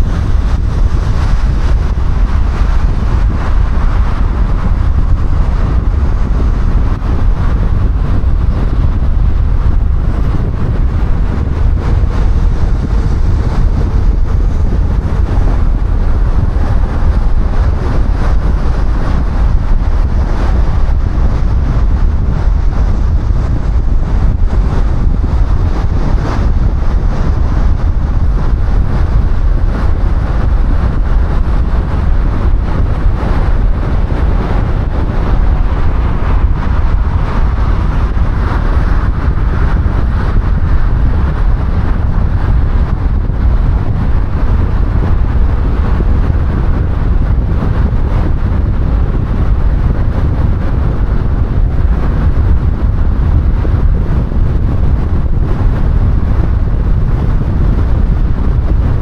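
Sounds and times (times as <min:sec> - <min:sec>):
tyre and wind road noise: 0:00.0 - 0:59.0
wind buffeting microphone: 0:00.0 - 0:59.0.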